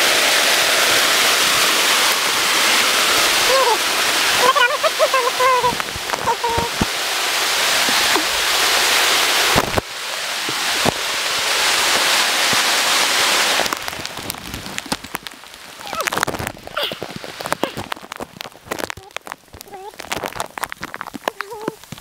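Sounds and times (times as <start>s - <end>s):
heavy rain pouring: 0.0s - 22.0s
raindrops ticking: 2.0s - 22.0s.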